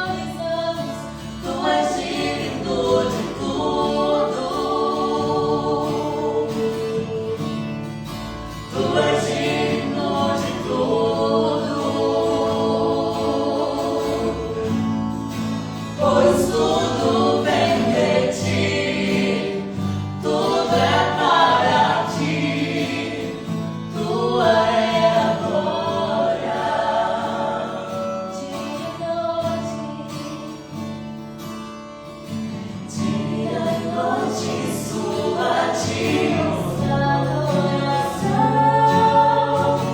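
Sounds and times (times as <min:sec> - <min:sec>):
voices singing together: 0:00.0 - 0:30.8, 0:32.7 - 0:39.9.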